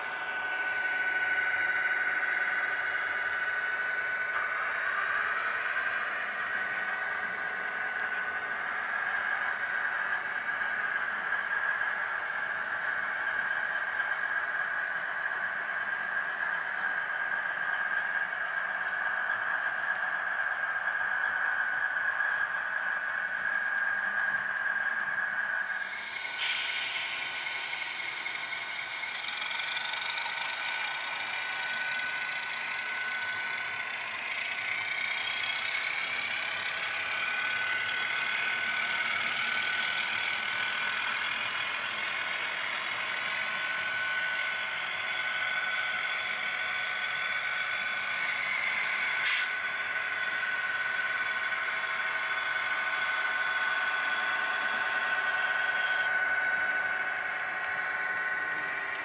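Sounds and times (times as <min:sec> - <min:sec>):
model train motor whine: 0:00.0 - 0:59.0
wheels rattling on track: 0:00.0 - 0:59.0.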